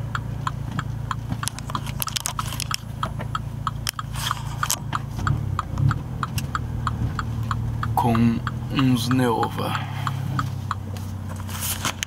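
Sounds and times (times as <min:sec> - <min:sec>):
low engine hum: 0:00.0 - 0:12.0
turn signal ticking: 0:00.0 - 0:12.0.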